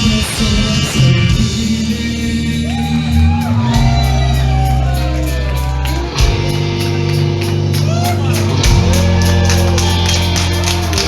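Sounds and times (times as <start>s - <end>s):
punk band guitars and bass: 0.0s - 11.0s.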